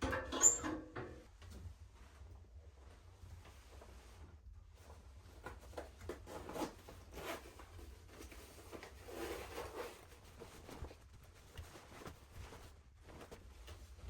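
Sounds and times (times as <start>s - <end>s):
rustling and scraping handling: 1.3s - 14.0s.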